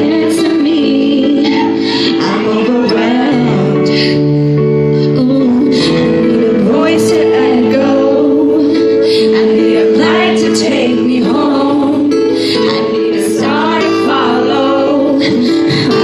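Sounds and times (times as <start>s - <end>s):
sustained instrumental chords: 0.0s - 16.0s
woman singing a slow ballad: 0.0s - 16.0s.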